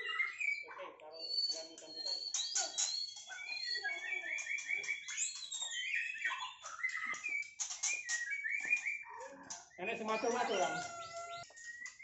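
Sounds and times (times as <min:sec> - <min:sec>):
birds singing whistled phrases: 0:00.0 - 0:12.0
sharp clicking bird notes: 0:01.4 - 0:12.0.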